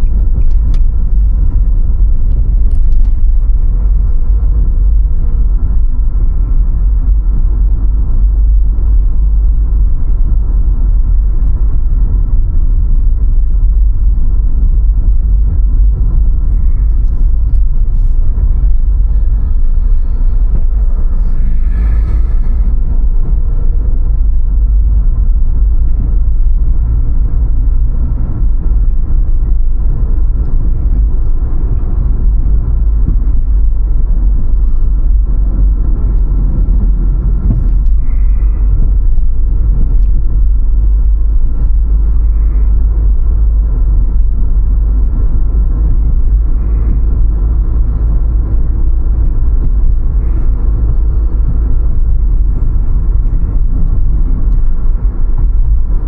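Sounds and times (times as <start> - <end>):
car road and engine rumble: 0.0 - 56.0
faint steady whine: 0.0 - 56.0.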